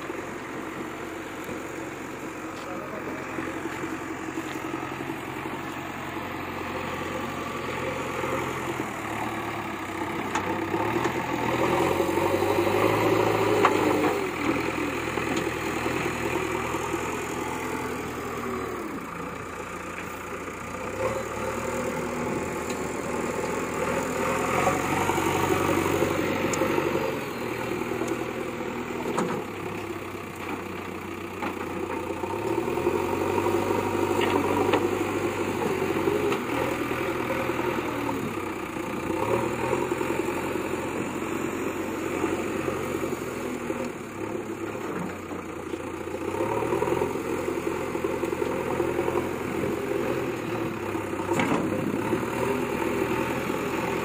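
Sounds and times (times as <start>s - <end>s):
diesel engine revving under load: 0.0s - 54.0s.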